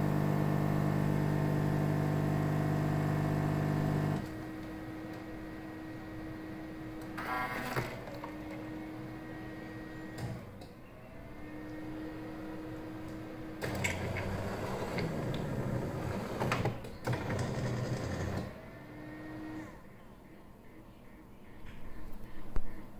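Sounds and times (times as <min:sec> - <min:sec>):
coffee machine rough noisy run: 0:00.0 - 0:10.3, 0:11.0 - 0:19.8
coffee machine humming: 0:00.0 - 0:19.9.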